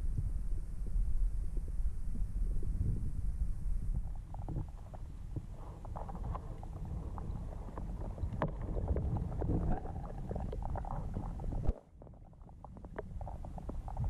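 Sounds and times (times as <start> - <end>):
muffled underwater water rumble: 0.0 - 14.0.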